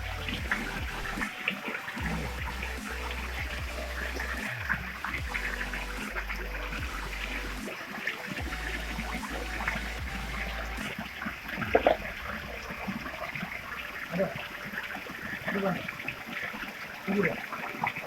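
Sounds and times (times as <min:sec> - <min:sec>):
waterfall rushing and splashing: 0:00.0 - 0:18.0.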